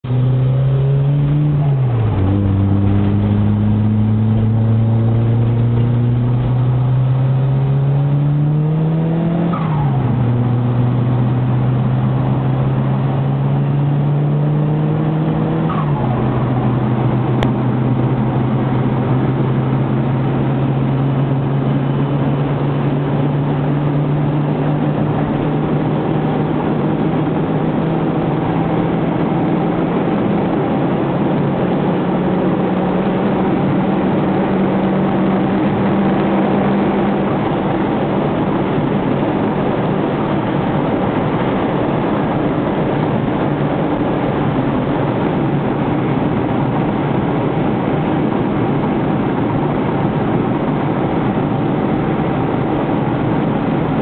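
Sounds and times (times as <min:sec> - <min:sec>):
car engine accelerating through gears: 0:00.0 - 0:54.0.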